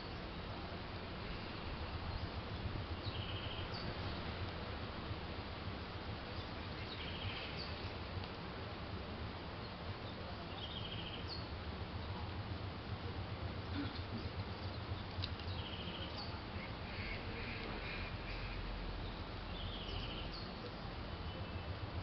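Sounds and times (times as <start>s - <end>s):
background hiss: 0.0s - 22.0s
songbird singing: 0.0s - 22.0s.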